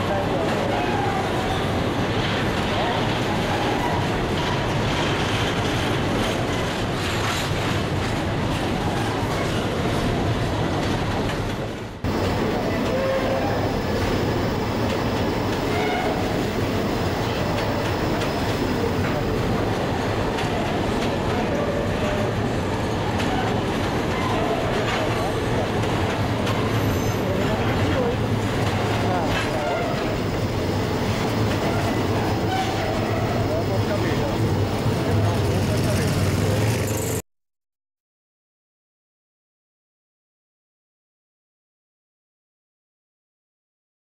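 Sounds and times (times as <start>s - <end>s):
train wheels rumbling on rails: 0.0s - 37.2s.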